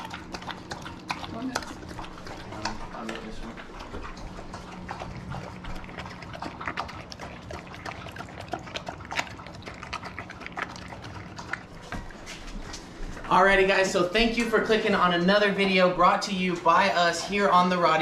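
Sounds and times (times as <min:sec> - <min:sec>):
dog lapping from bowl: 0:00.0 - 0:18.0.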